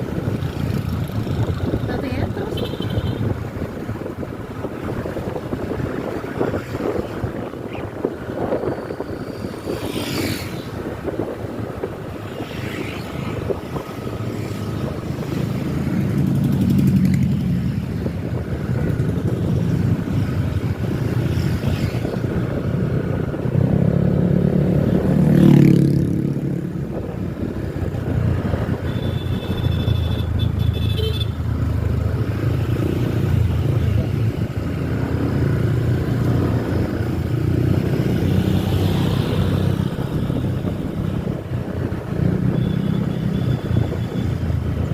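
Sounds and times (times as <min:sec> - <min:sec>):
motorcycles and vehicles passing: 0:00.0 - 0:44.9.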